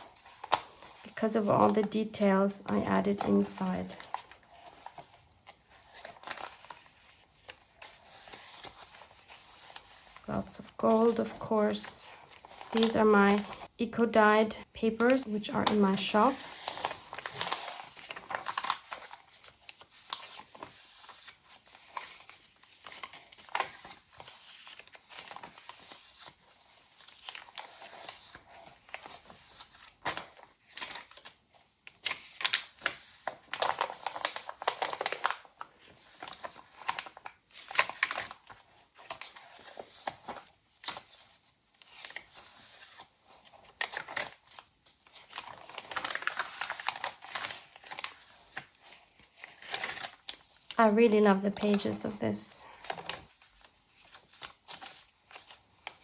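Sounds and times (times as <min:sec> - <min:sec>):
paper pages rustling: 0:00.0 - 0:13.7, 0:15.0 - 0:56.0.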